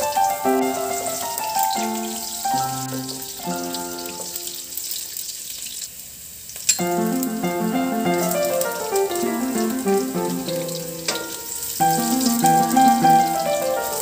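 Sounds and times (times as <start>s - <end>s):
simple melody background music: 0.0s - 4.6s, 6.8s - 14.0s
shallots and garlic sizzling in oil: 0.0s - 14.0s.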